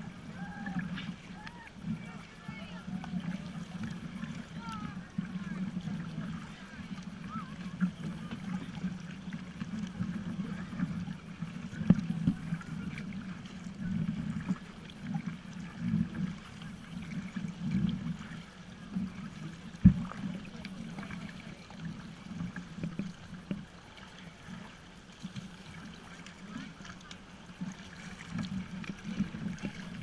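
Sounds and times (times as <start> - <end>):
water sloshing and gurgling: 0.0 - 30.0.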